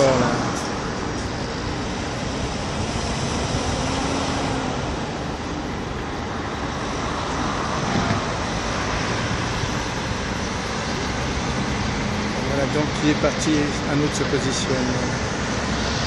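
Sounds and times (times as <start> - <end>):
traffic and machinery din: 0.0 - 16.0.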